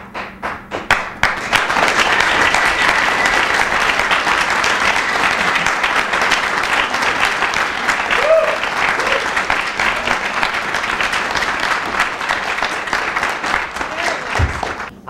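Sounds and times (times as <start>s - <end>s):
audience applause: 0.9s - 14.9s.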